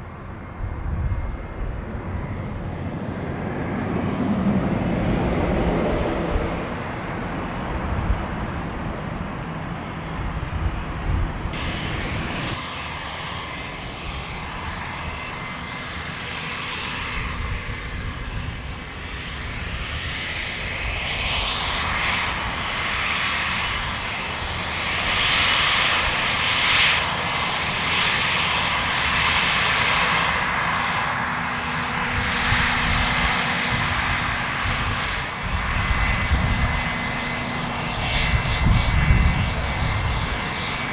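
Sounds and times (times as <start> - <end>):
aircraft engines running: 0.0 - 40.9.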